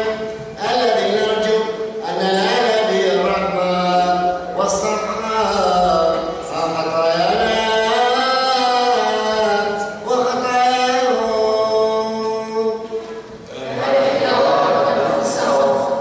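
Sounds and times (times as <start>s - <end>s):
liturgical chant: 0.0s - 16.0s.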